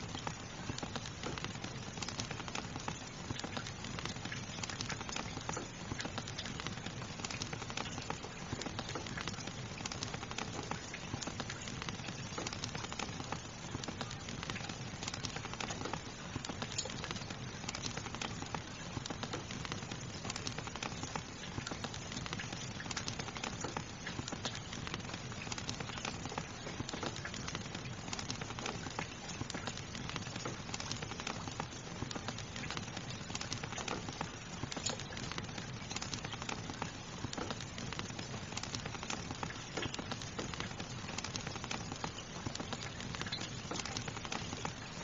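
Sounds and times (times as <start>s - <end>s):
fire crackling and popping: 0.0s - 45.0s
rain falling: 0.0s - 45.0s.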